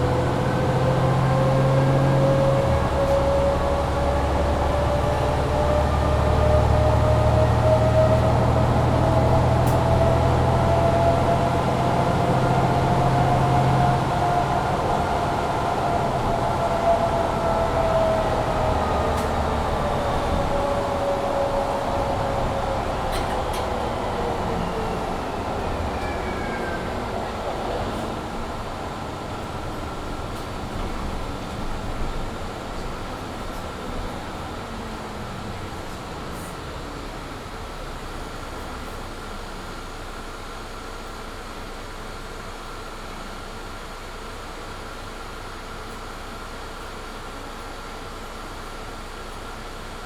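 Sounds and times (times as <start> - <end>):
bus transmission whine: 0.0 - 41.8
bus engine pulling: 0.0 - 43.4.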